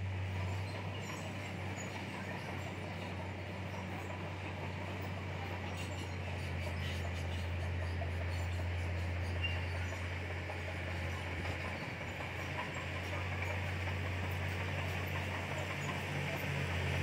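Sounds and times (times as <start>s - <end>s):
bulldozer diesel engine droning: 0.0s - 17.0s
steel tracks clattering: 0.0s - 17.0s.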